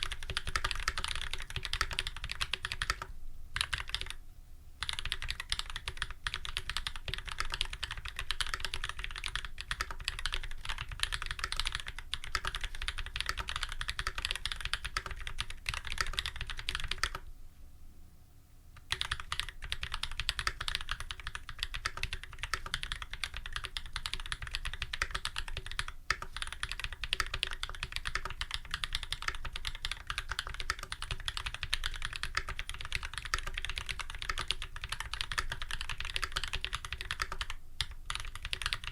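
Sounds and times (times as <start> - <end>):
mechanical keyboard typing: 0.0 - 4.2, 4.8 - 17.2, 18.8 - 38.9.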